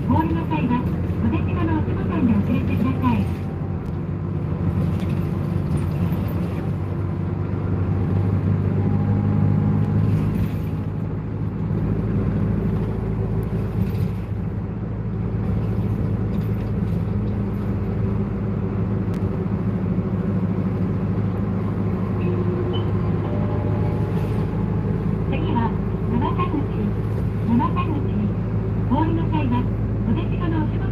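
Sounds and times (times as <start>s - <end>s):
bus engine and road noise: 0.0s - 30.9s.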